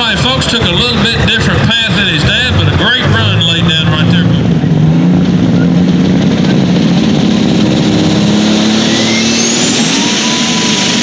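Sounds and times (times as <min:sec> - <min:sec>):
tractor engine running loudly: 0:00.0 - 0:11.0.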